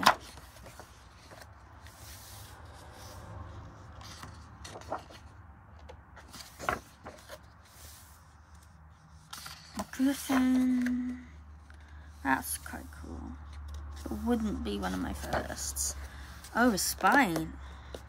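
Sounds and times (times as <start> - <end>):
paper rustling: 0.0 - 5.4, 6.2 - 18.0
book pages turning: 0.0 - 18.0.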